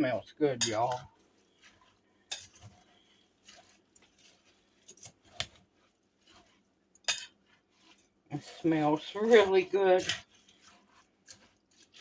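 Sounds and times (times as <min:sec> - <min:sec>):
spoon stirring and scraping: 0:00.0 - 0:12.0.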